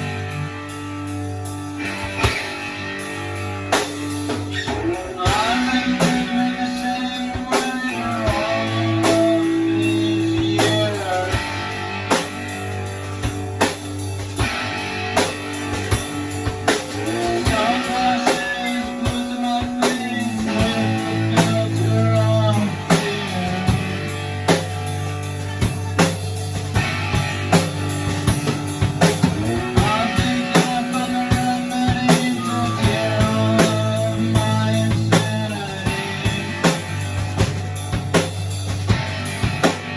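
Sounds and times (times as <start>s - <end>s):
drum kit steady beat: 0.0s - 39.9s
electric guitar lead: 0.0s - 39.9s.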